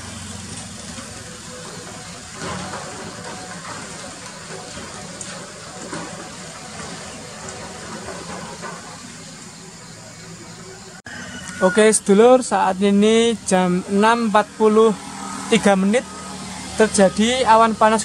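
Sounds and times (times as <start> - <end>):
excavator diesel engine: 0.0 - 18.0.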